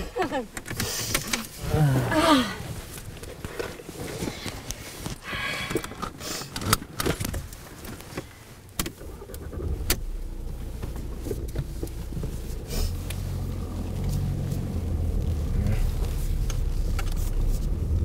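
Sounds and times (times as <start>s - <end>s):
car engine rumbling: 0.0s - 18.0s
clicks and knocks inside car: 2.7s - 18.0s.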